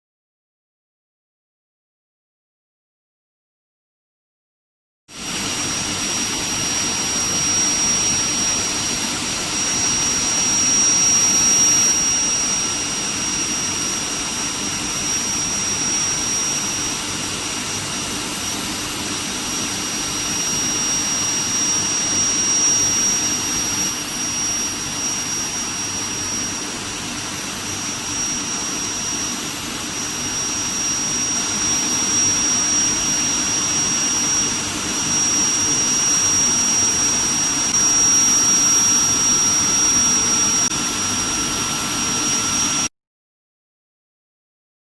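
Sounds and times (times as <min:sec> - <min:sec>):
high steady whine: 0:05.1 - 0:42.9
machine noise: 0:05.1 - 0:42.9.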